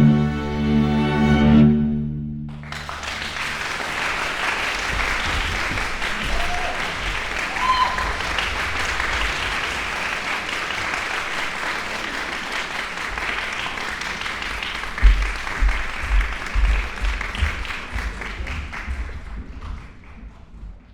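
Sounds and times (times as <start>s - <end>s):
audience applauding: 2.5s - 20.9s.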